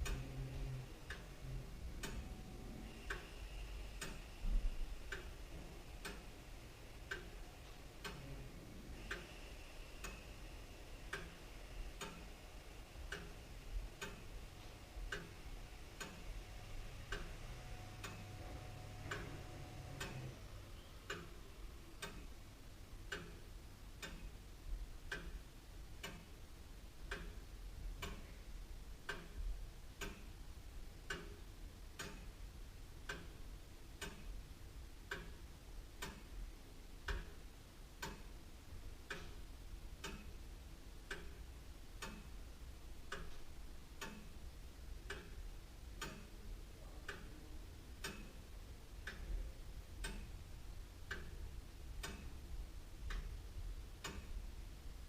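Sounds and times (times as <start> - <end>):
clock ticking: 0.0 - 26.4, 27.0 - 54.6.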